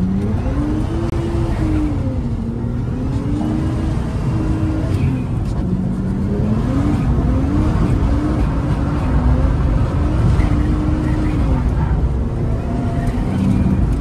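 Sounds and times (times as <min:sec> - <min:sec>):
car engine revving: 0:00.0 - 0:14.0
road and wind noise: 0:00.0 - 0:14.0.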